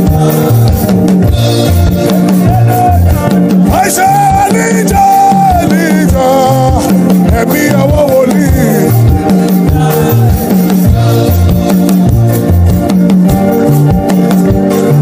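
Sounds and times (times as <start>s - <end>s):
upbeat worship music: 0.0s - 15.0s.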